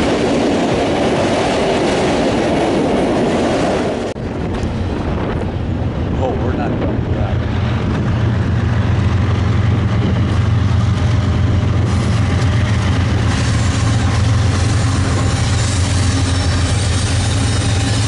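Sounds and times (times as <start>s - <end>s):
diesel locomotives droning: 0.0s - 18.0s.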